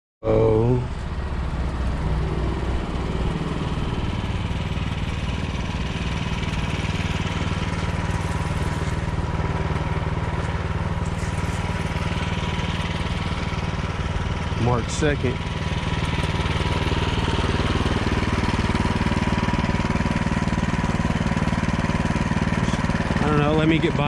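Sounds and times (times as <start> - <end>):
snowblower engine running: 0.9 - 24.0.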